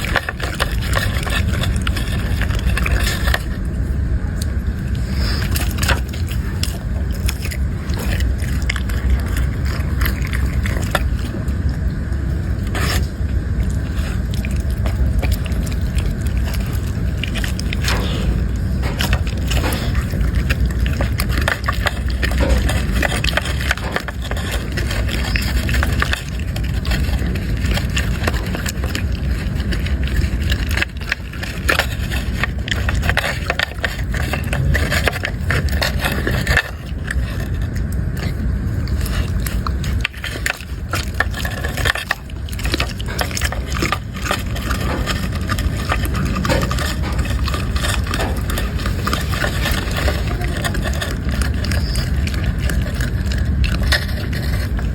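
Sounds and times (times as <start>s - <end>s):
dog crunching food: 0.0s - 54.9s
low rumble: 0.0s - 54.9s.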